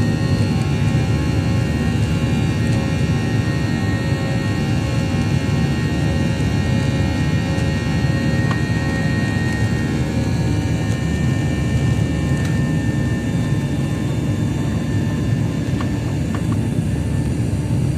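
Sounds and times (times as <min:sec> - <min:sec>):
airplane engines droning: 0:00.0 - 0:17.9.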